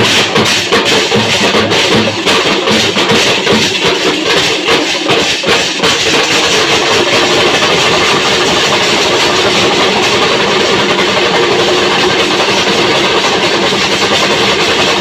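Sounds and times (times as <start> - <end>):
brass cymbals clashing: 0.0 - 15.0
drums: 0.0 - 15.0.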